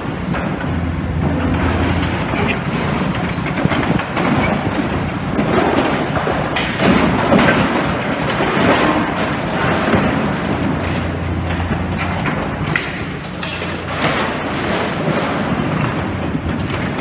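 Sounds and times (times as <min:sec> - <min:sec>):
excavator diesel engine: 0:00.0 - 0:17.0
rubble and metal crunching: 0:00.0 - 0:17.0
heavy crashes: 0:00.3 - 0:16.8.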